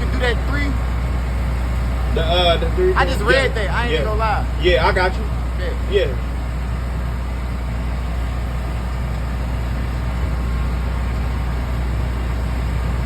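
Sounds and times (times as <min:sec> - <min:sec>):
motor humming steadily: 0:00.0 - 0:13.0.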